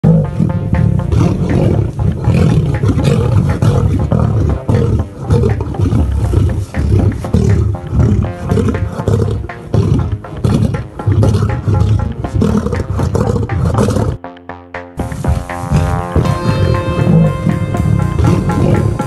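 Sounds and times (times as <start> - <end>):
lions roaring: 0.0 - 14.2, 15.3 - 17.3, 17.9 - 19.0.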